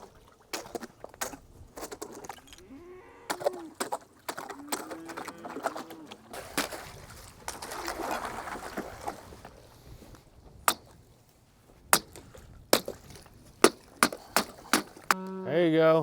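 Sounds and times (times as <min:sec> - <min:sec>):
water sloshing: 0:00.0 - 0:02.6, 0:03.3 - 0:15.2.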